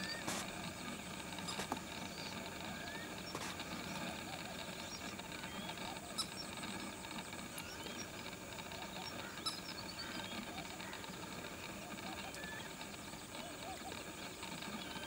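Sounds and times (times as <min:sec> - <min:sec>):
small birds chirping: 0:00.0 - 0:15.0
steady hiss: 0:00.0 - 0:15.0.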